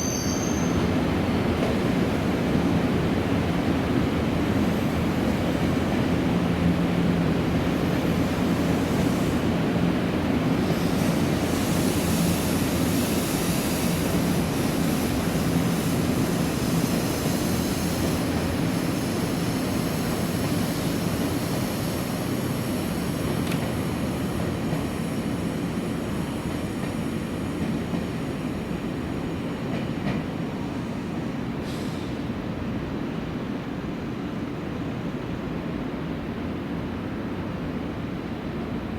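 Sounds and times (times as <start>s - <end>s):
electric train rail rumble: 0.0s - 38.9s.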